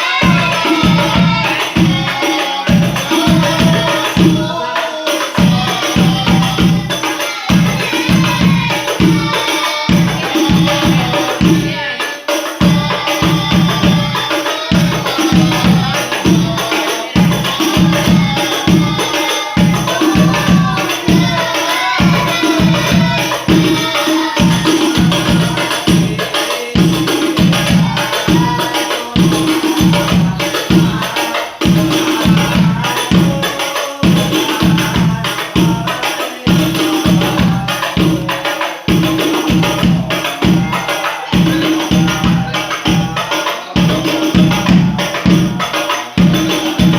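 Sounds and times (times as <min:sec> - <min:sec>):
frame drums and jingles: 0:00.0 - 0:46.9
voices singing devotional verses: 0:00.0 - 0:46.9.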